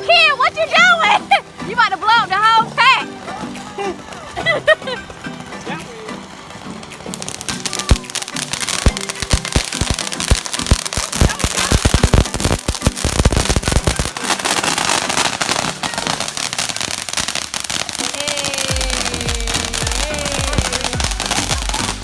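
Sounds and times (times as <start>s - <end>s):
firecrackers popping: 0.0s - 22.0s
fireworks hissing: 0.0s - 22.0s.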